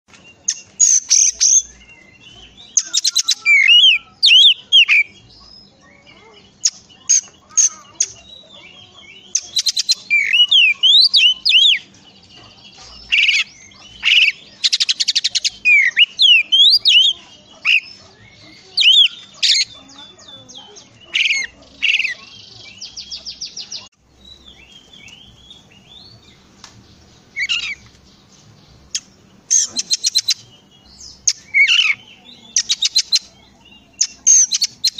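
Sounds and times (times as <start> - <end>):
bird singing trills and whistles: 0.1 - 34.9.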